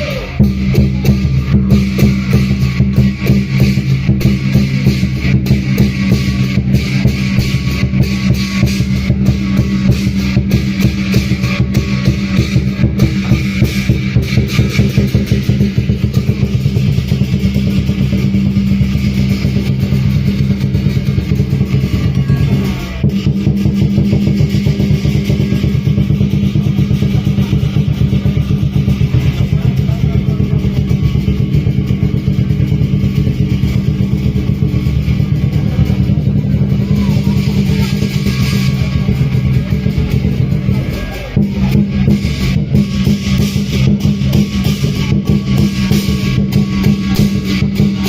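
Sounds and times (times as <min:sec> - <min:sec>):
loud music with fast drumming: 0:00.0 - 0:48.0.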